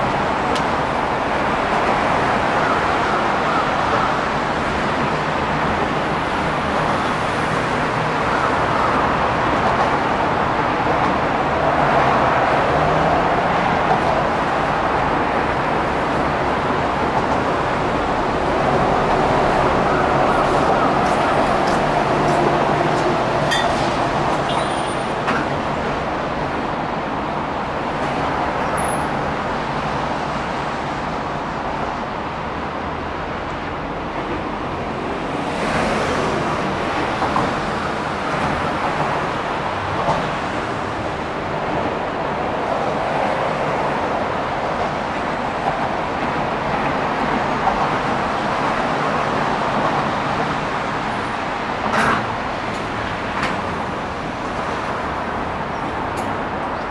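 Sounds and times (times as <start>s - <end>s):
highway traffic noise: 0.0s - 56.9s.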